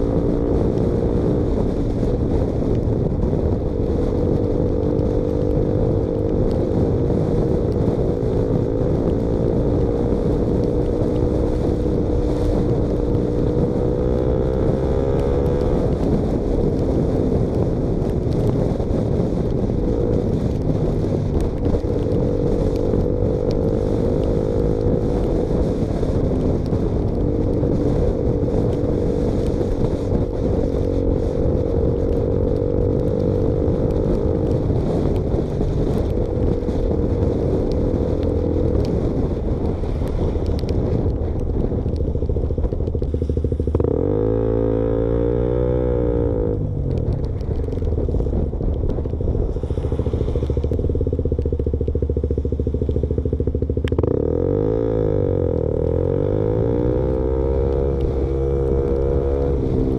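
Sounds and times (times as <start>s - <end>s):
loud motorcycle exhaust: 0.0s - 59.9s.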